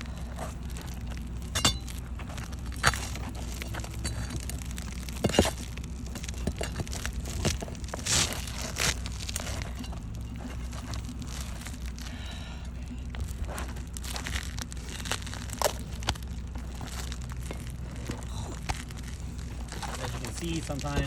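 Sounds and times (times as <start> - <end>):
shingles crunching and scraping: 0.0 - 21.0.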